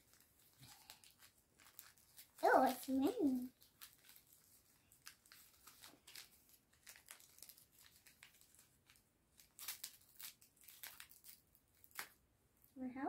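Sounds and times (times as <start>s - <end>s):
wrapping paper crinkling and tearing: 0.0s - 12.2s.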